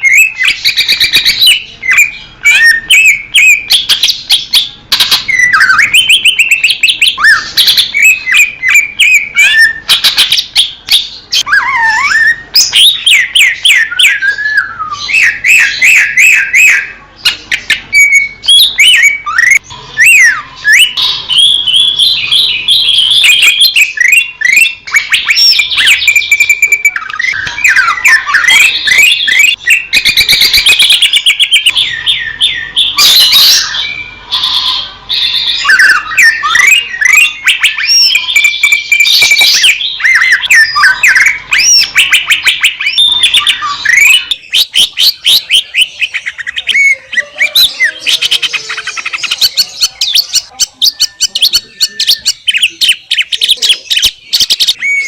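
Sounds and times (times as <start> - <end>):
bird singing fast varied song: 0.0 - 55.0.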